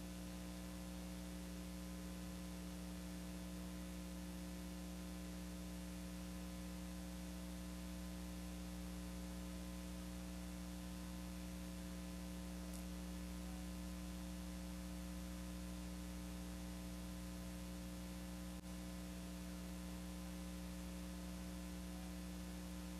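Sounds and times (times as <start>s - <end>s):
electrical mains hum: 0.0s - 22.9s
tape hiss: 0.0s - 22.9s.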